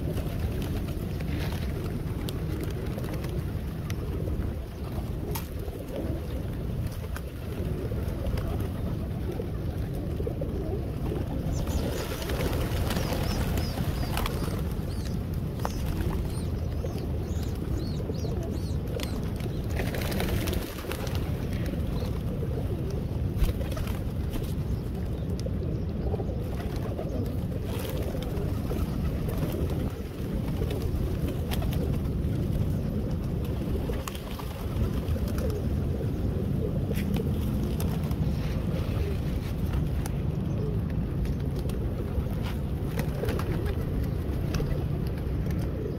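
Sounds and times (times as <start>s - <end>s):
wings flapping: 0.0s - 25.4s, 26.4s - 45.9s
pigeons cooing: 0.0s - 45.9s.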